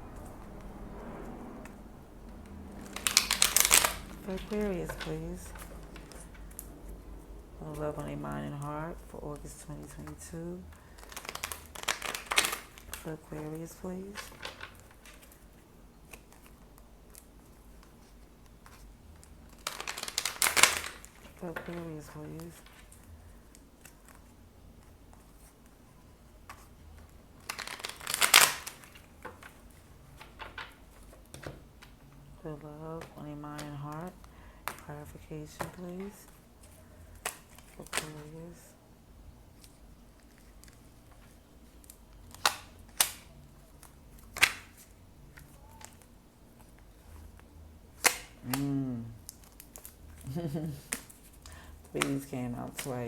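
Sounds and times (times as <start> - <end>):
cards riffling: 2.4 - 7.1, 9.5 - 25.8, 26.4 - 32.0, 33.0 - 38.6, 39.5 - 53.0.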